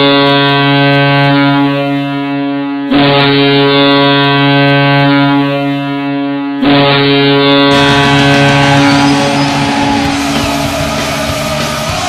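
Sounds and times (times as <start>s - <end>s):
hockey goal horn blasts: 0.0s - 12.0s.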